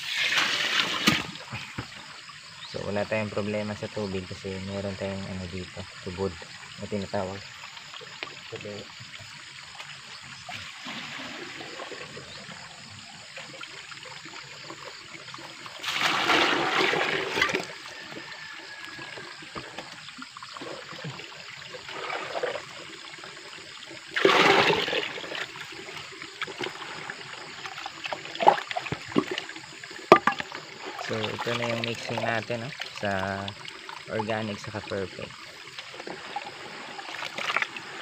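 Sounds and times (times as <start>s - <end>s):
water splashing gushes: 0.0s - 2.2s, 2.8s - 38.0s
water trickling into bucket: 0.0s - 38.0s.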